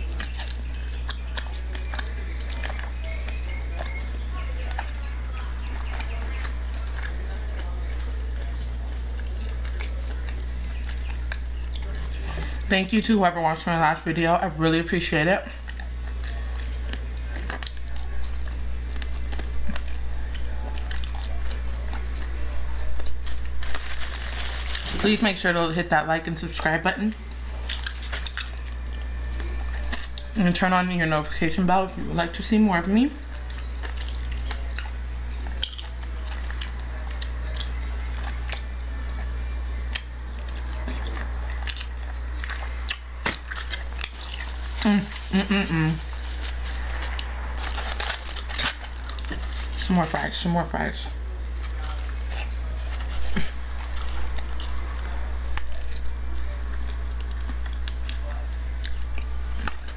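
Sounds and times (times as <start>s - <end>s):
chewing and biting: 0.0s - 12.6s, 15.5s - 25.0s, 27.5s - 30.4s, 33.2s - 49.9s, 51.6s - 59.9s
steady low hum: 0.0s - 59.9s.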